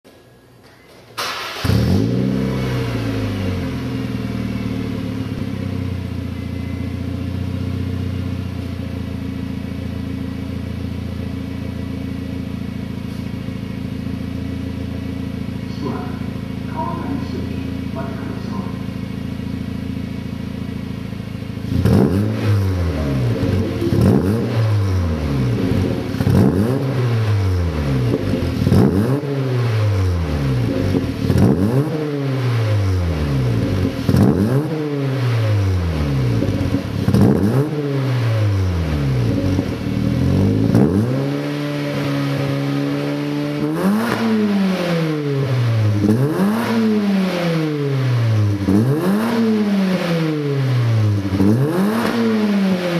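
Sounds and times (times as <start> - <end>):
car engine revving in garage: 0.1 - 52.9.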